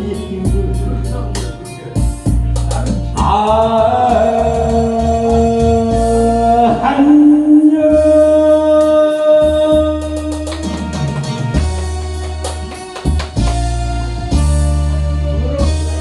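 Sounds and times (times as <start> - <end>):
bass and drum beat: 0.0 - 16.0.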